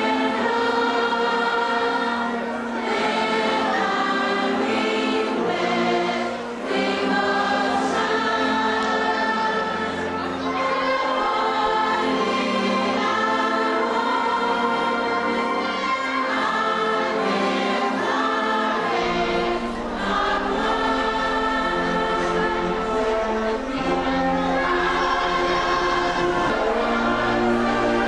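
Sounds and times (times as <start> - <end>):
choir singing long notes: 0.0 - 28.0.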